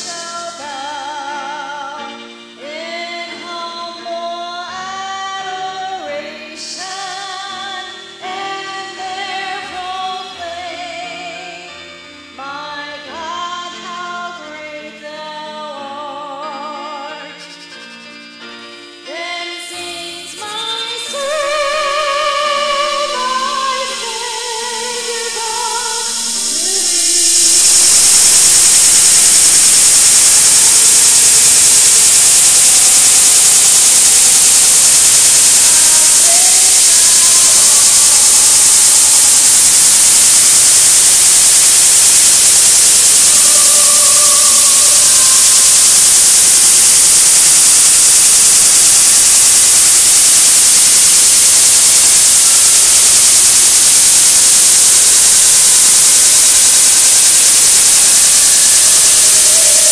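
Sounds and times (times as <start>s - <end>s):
loud static hiss: 0.0s - 59.9s.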